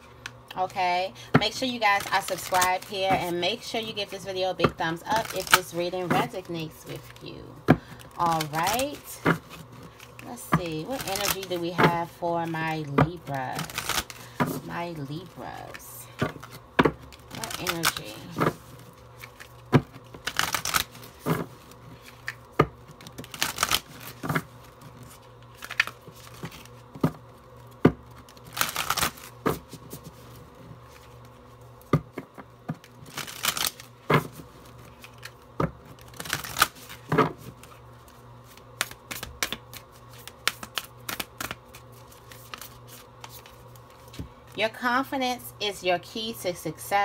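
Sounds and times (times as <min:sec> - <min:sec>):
cards being shuffled: 0:01.4 - 0:44.4.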